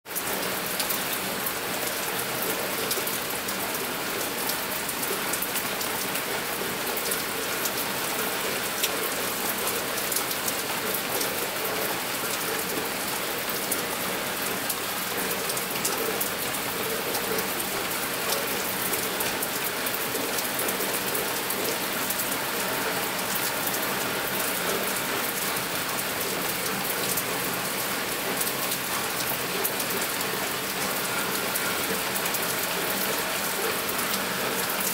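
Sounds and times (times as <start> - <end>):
raindrops ticking on a surface: 0.1 - 34.9
steady rain: 0.1 - 34.9.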